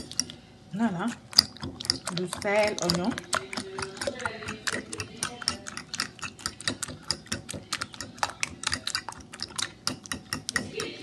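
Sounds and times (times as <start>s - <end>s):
utensil clicking against ceramic bowl: 0.0s - 0.4s, 1.2s - 11.0s.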